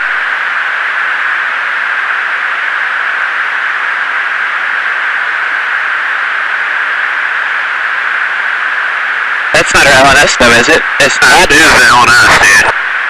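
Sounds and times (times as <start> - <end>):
intercom static hiss: 0.0 - 13.0.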